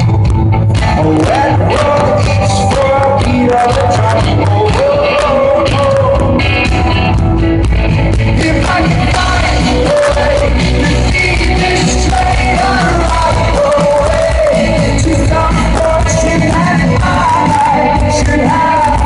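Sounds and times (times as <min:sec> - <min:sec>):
rock band playing live: 0:00.0 - 0:19.0
lead singer singing: 0:00.7 - 0:06.8, 0:08.2 - 0:19.0.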